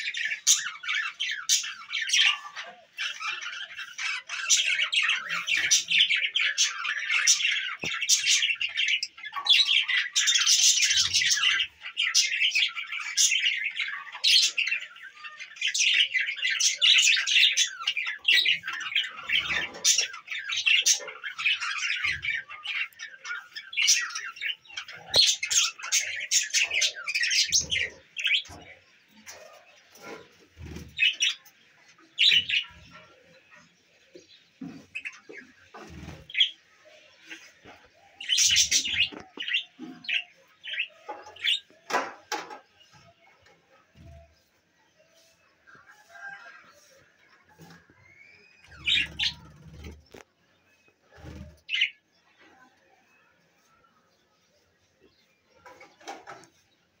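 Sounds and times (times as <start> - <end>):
budgerigars chattering and chirping: 0.0 - 43.4, 46.0 - 52.0.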